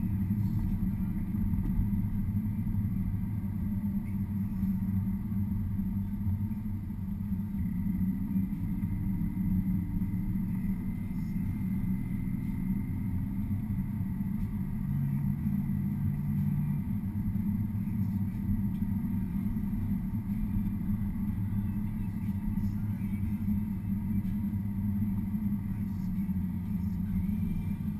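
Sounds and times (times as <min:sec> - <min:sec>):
car engine and tyres rumbling: 0:00.0 - 0:27.9.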